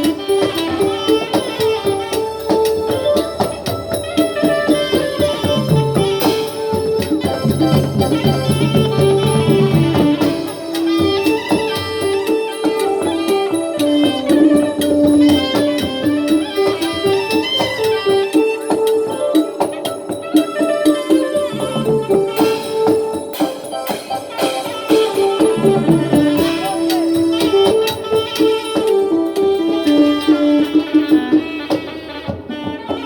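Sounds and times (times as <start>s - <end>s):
fast clicking percussion: 0.0s - 33.0s
stepping ensemble melody: 0.0s - 33.0s.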